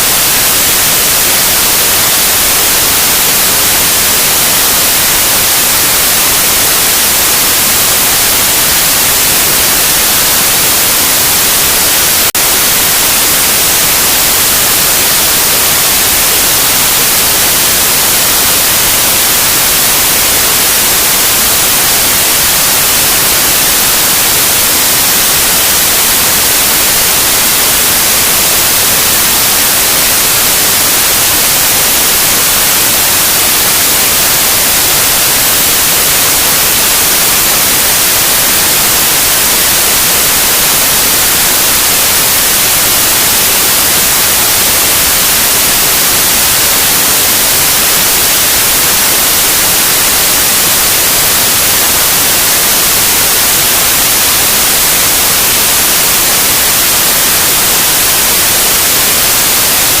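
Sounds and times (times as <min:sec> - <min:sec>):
white noise hiss: 0:00.0 - 1:00.0.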